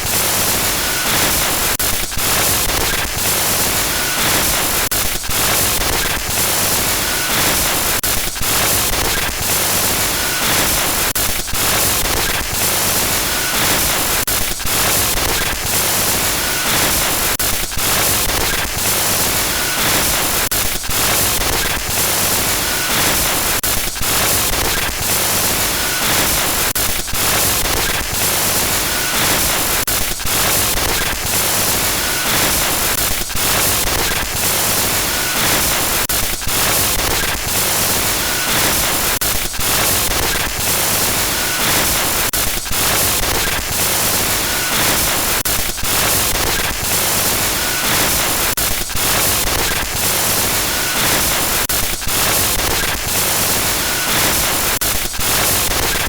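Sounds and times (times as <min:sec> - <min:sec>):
harsh static hiss: 0:00.0 - 0:56.0.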